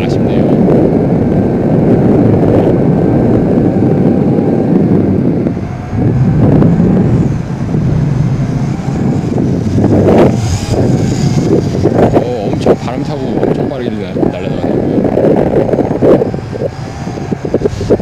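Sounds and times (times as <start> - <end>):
drone motors whining: 0.0 - 18.0
wind buffeting microphone: 0.0 - 18.0.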